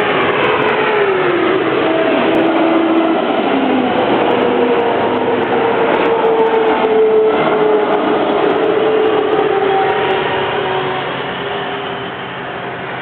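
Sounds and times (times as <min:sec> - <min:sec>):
droning hum drifting in pitch: 0:00.0 - 0:13.0
vehicle running noise: 0:00.0 - 0:13.0.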